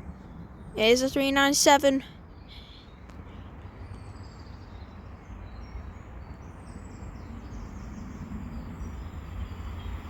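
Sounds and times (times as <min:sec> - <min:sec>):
low rumble of approaching train: 0:00.0 - 0:10.0.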